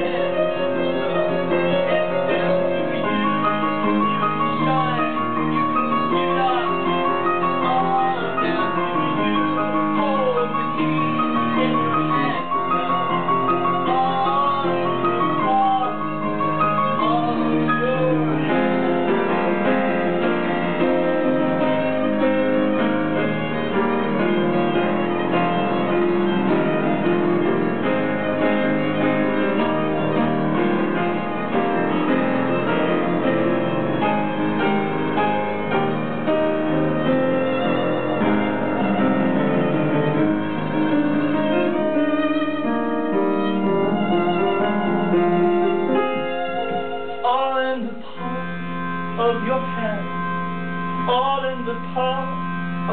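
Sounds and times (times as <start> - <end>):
bowed string instrument: 0.0 - 52.9
piano playing: 0.0 - 52.9.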